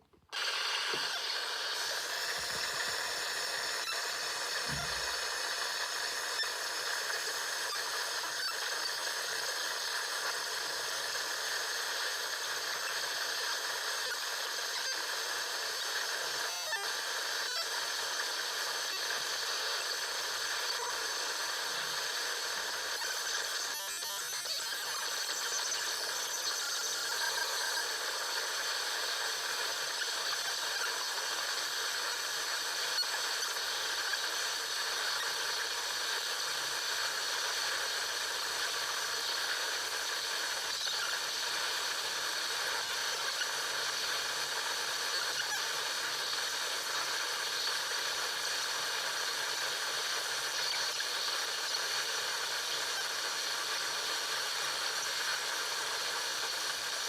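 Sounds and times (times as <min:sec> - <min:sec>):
harsh digital hiss: 0:00.0 - 0:57.0.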